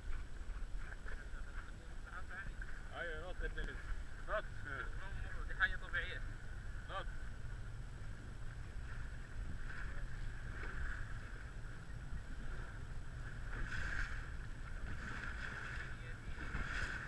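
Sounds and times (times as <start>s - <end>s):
boat engine rumble: 0.0s - 17.0s
water rushing past hull: 0.0s - 17.0s.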